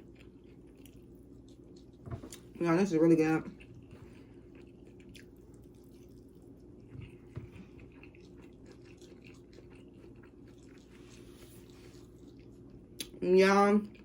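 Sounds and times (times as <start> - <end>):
chewing and mouth clicks: 0.0 - 2.6, 3.5 - 13.2.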